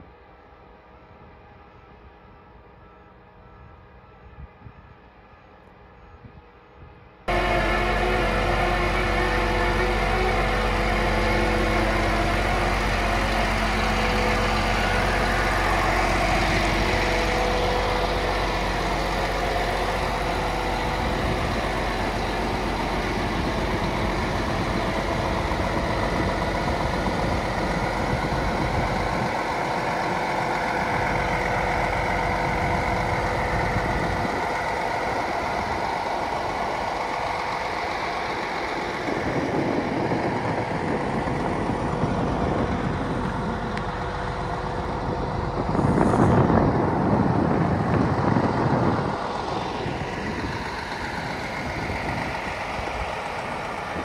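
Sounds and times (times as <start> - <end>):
diesel truck engine running: 7.3 - 54.0.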